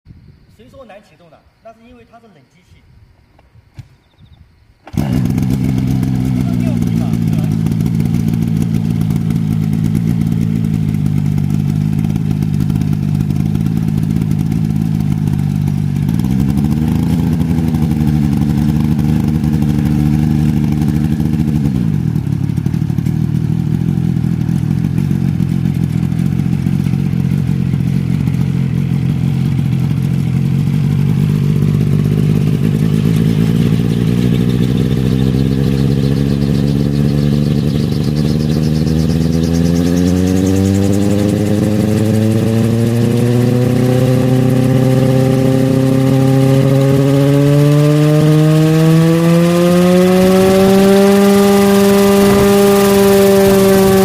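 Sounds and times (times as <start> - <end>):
helicopter piston engine running: 4.9 - 21.4, 22.2 - 47.4, 50.2 - 54.0.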